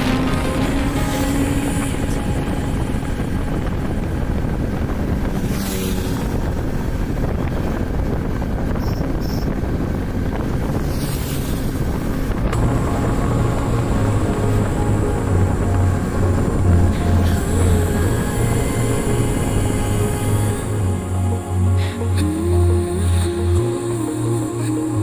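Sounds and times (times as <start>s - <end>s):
low music notes: 0.0s - 8.2s, 12.2s - 25.0s
motorcycle engine running: 0.0s - 22.8s
wind buffeting microphone: 0.0s - 25.0s.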